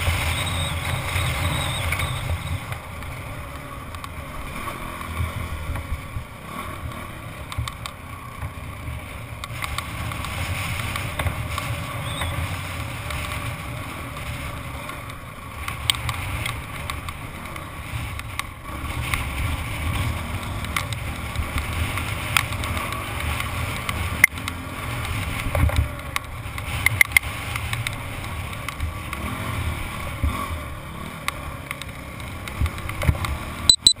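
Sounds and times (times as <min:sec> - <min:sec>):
bike knocking and rattling over bumps: 0:00.0 - 0:34.0
dirt bike engine running: 0:00.0 - 0:34.0.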